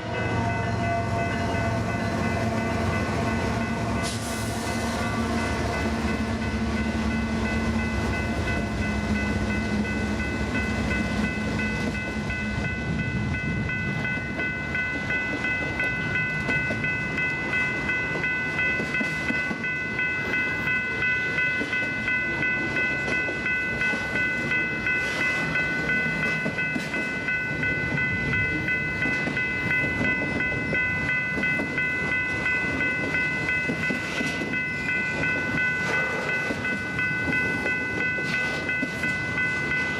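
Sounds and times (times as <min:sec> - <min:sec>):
locomotive engine drone: 0:00.0 - 0:39.9
train cars rumbling over rails: 0:00.0 - 0:39.9.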